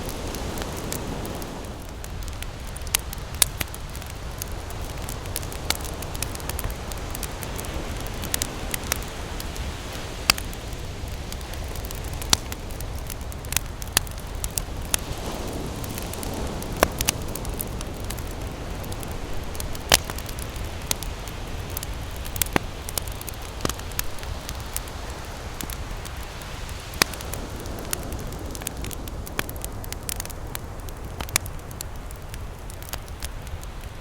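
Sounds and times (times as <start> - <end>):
campfire crackling and popping: 0.0 - 34.0
ocean waves rumbling: 0.0 - 34.0.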